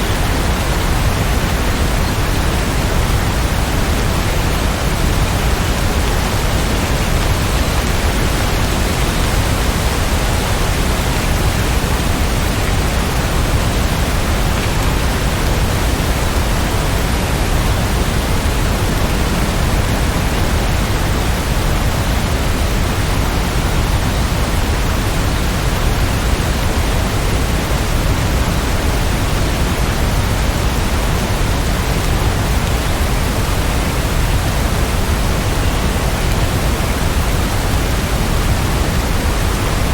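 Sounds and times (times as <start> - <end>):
dense rainfall hiss: 0.0 - 39.9.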